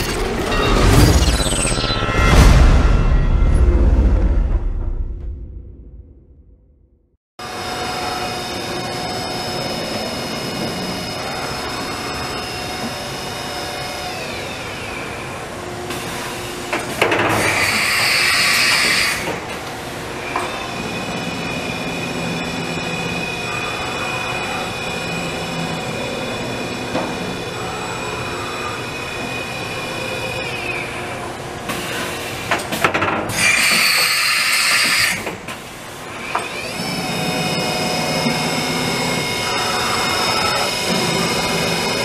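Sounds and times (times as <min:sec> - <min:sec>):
machine high whine: 0:00.0 - 0:04.2, 0:07.4 - 0:32.6, 0:33.3 - 0:42.0.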